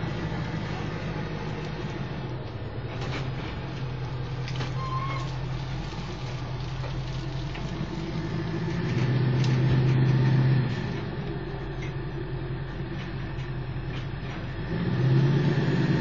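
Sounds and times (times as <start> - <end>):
pickup truck engine hum: 0.0 - 16.0.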